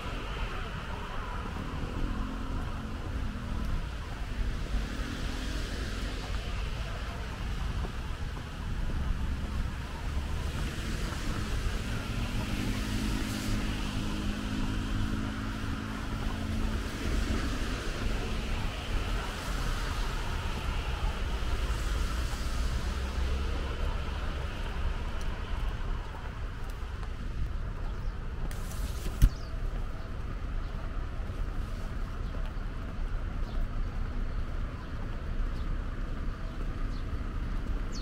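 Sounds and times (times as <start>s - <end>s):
distant traffic on wet roads: 0.0s - 38.0s.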